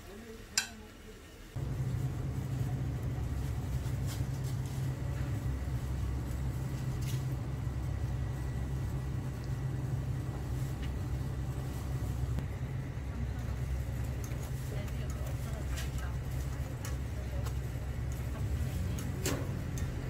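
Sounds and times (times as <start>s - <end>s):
low rumble of street stalls: 0.0s - 20.0s.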